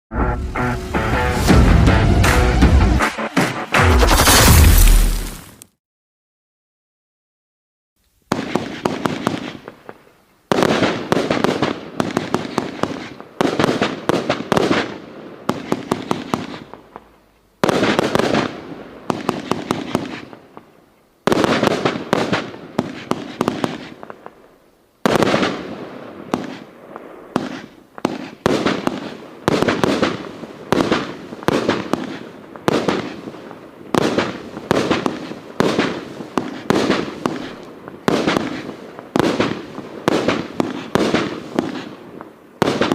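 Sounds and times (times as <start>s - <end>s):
firework bangs and crackling: 0.5s - 5.6s, 8.3s - 42.9s.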